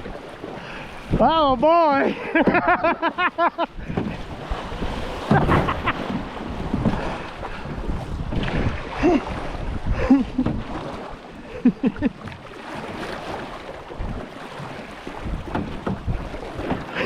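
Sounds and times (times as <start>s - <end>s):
water rushing and splashing: 0.0s - 17.0s.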